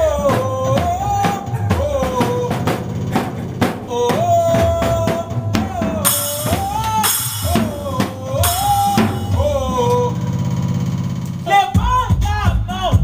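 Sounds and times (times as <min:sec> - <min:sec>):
drum-kit beat: 0:00.0 - 0:13.0.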